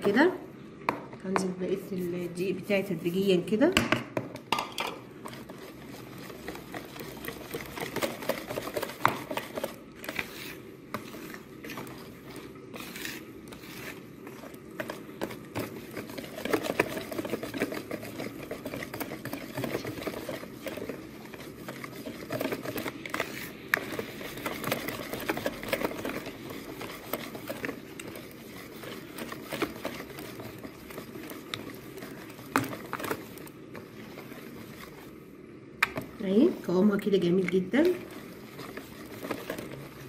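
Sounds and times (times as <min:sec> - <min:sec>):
whisk beating batter in bowl: 0:01.8 - 0:03.8, 0:04.5 - 0:40.0.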